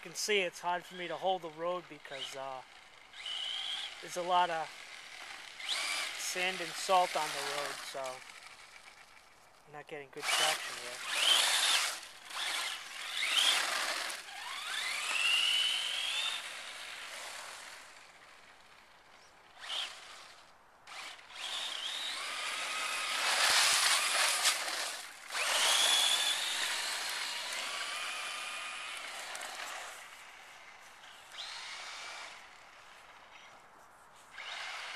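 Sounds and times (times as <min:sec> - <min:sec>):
electric motor whining: 0:01.8 - 0:09.4, 0:10.2 - 0:33.6, 0:34.3 - 0:34.9.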